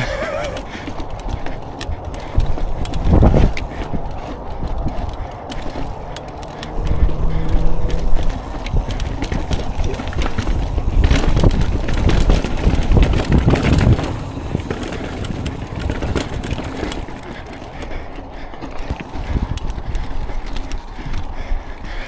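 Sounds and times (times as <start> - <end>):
bike clicks and clattering knocks: 0.0 - 22.0
bike tyres crunching over rock: 0.0 - 22.0.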